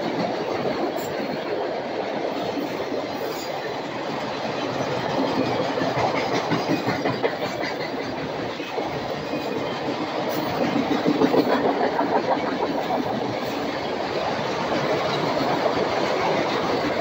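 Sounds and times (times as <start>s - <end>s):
train wheels rumbling on rails: 0.0s - 17.0s
wheels clacking over rail joints: 2.3s - 17.0s.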